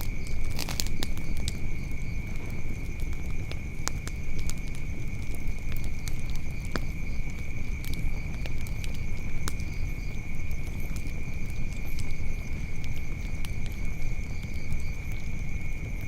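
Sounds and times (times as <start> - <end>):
insects chirring: 0.0 - 16.0
wood fire crackling and popping: 0.0 - 16.0.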